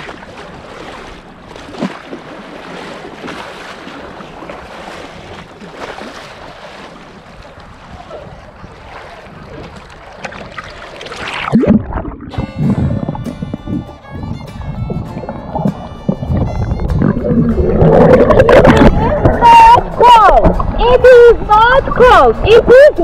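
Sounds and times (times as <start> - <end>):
water sloshing and splashing: 0.0 - 23.0
wind on microphone: 4.4 - 23.0.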